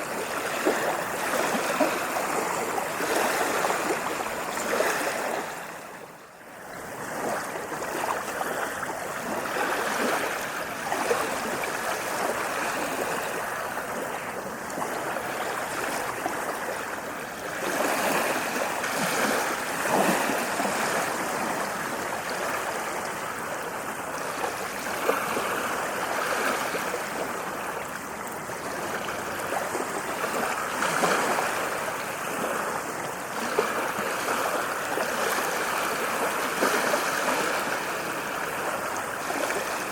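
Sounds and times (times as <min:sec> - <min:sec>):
ocean surf on sandy beach: 0:00.0 - 0:39.9.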